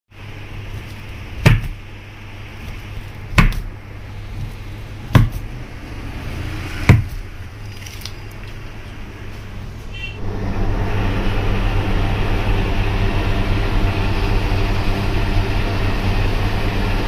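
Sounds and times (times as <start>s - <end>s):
low hum: 0.2s - 17.0s.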